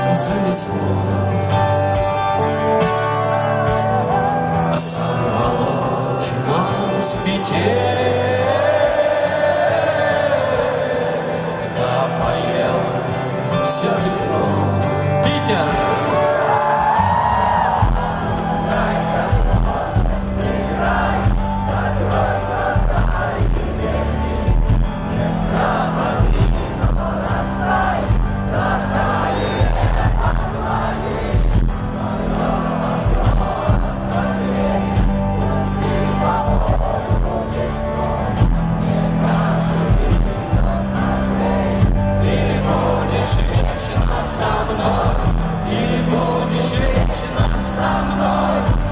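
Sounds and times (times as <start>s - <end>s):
crowd voices: 0.0s - 48.9s
live rock band: 0.0s - 48.9s
person singing: 4.2s - 28.0s, 28.6s - 48.9s.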